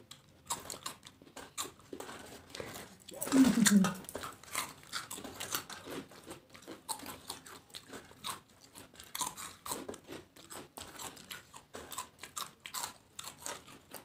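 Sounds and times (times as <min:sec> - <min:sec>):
people chewing crisp food: 0:00.0 - 0:14.0.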